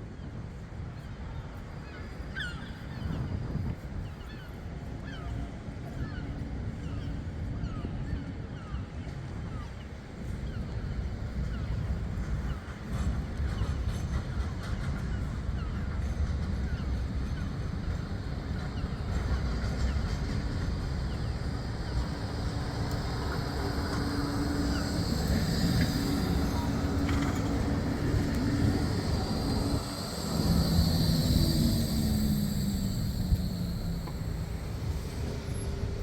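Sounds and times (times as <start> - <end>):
tram electric drive humming: 0.0 - 36.0.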